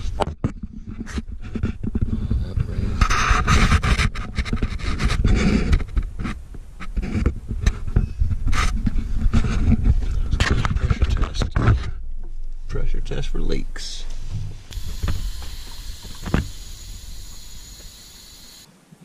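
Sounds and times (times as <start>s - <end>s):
rustling against camera microphone: 0.0s - 12.9s, 14.0s - 18.7s.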